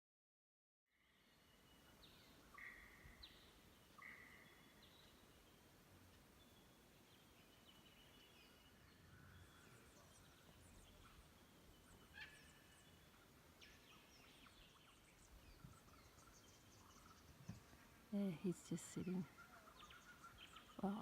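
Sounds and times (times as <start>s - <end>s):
small birds chirping: 0.9s - 21.0s.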